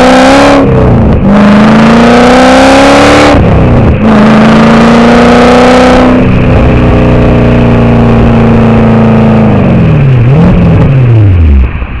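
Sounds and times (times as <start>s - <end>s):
car exhaust revving: 0.0s - 12.0s.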